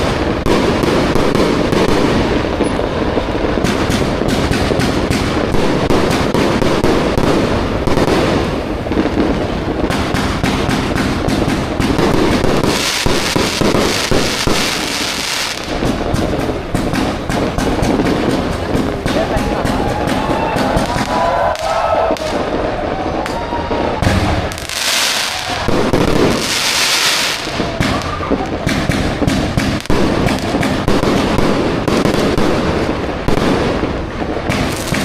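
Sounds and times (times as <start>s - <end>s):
fireworks popping and crackling: 0.0s - 35.0s.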